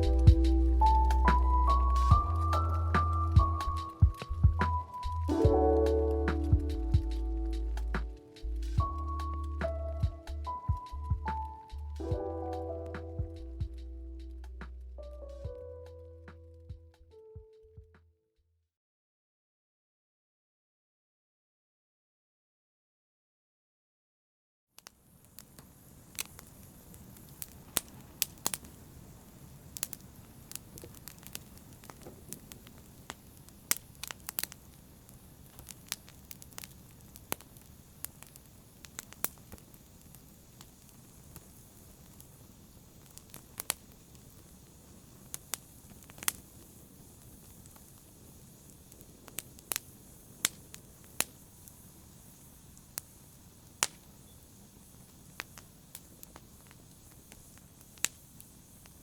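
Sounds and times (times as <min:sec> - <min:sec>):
low rush of flames: 0:00.0 - 0:15.6, 0:24.8 - 0:59.0
fire crackling and popping: 0:00.0 - 0:15.8, 0:24.8 - 0:59.0.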